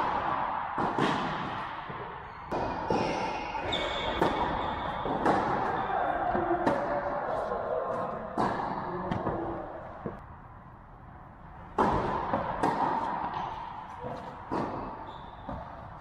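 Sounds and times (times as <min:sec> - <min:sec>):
tennis balls struck and bouncing: 0:00.0 - 0:10.2, 0:11.6 - 0:16.0.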